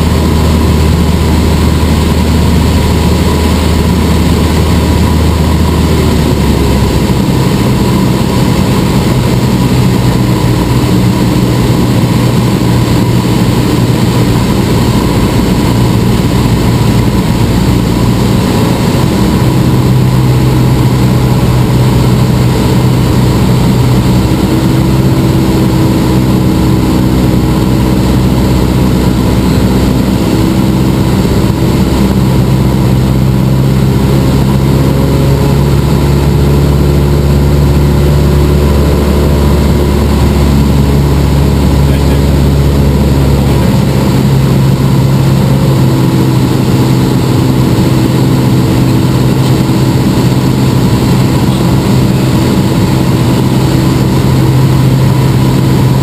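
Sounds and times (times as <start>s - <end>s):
airplane engine and propeller in cabin: 0.0s - 56.0s.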